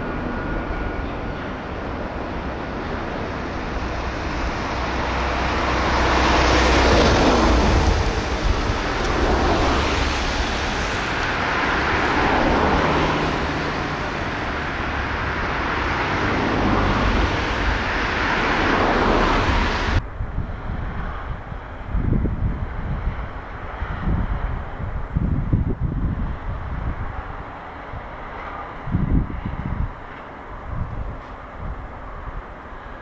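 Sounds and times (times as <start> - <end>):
outdoor rushing noise: 0.0 - 33.0.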